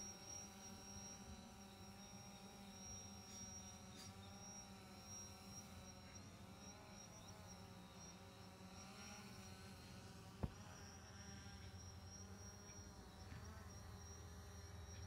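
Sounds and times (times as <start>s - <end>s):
faint motor hum: 0.0s - 15.0s.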